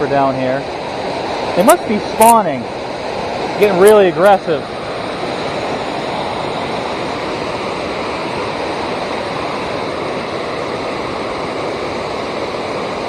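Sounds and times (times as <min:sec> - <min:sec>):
water rushing over a dam: 0:00.0 - 0:13.0.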